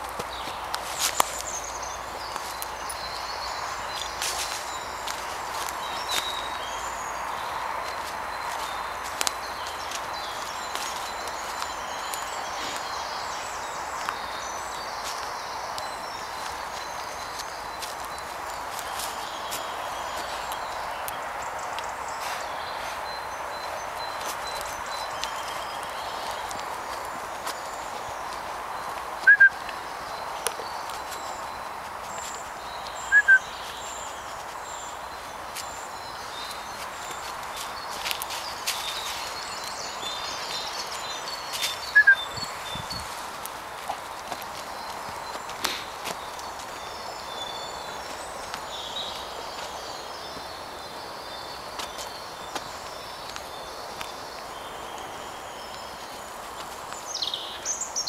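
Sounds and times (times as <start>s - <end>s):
background hiss: 0.0s - 58.0s
birds singing: 0.0s - 58.0s
footsteps crunching on leaves: 0.0s - 58.0s.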